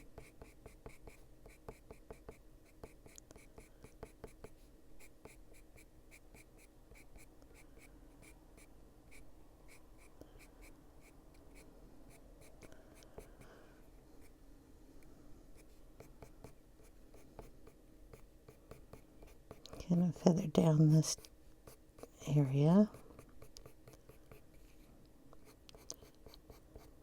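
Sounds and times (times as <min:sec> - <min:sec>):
coloured pencil scratching on paper: 0:00.0 - 0:13.4, 0:15.6 - 0:27.0.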